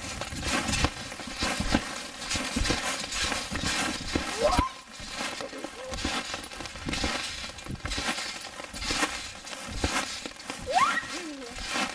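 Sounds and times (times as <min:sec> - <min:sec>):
feet bouncing on trampoline: 0:00.0 - 0:11.9
hail pattering on trampoline: 0:00.0 - 0:11.9.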